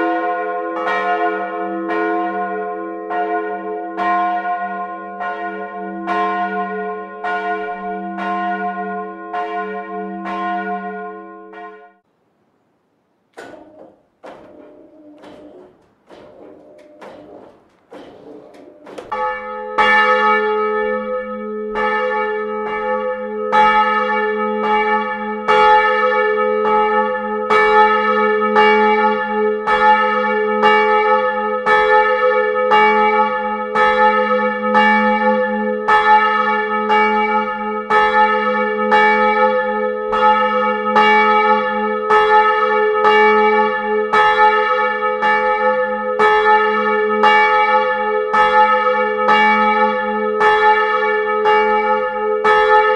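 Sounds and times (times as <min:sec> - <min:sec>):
church bell ringing: 0:00.0 - 0:12.0, 0:13.4 - 0:52.9.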